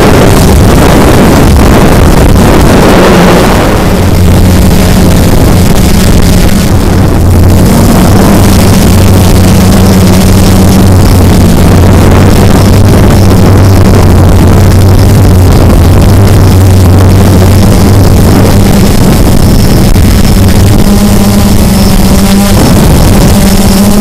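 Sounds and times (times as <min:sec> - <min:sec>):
drone propellers buzzing: 0:00.0 - 0:24.0
wind rushing over microphone: 0:00.0 - 0:24.0.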